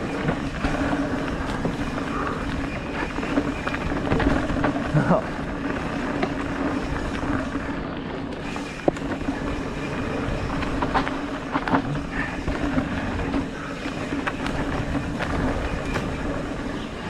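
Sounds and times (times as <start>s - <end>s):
bicycle tyre hum: 0.0s - 17.0s
bike clicks and rattles: 0.0s - 17.0s.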